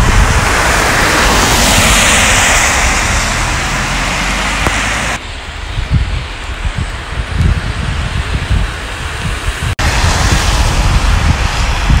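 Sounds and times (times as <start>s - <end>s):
tyres hissing on wet road: 0.0s - 12.0s
wind rumble on microphone: 0.0s - 12.0s.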